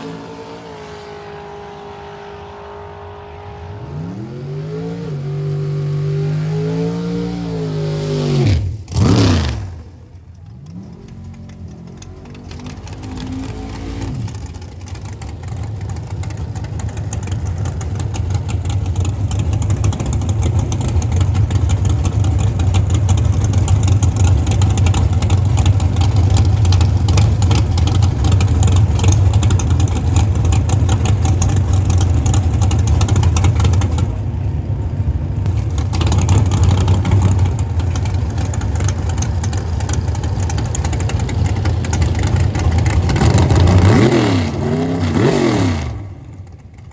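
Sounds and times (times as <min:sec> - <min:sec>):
drag racing car engine running: 0:00.0 - 0:46.9.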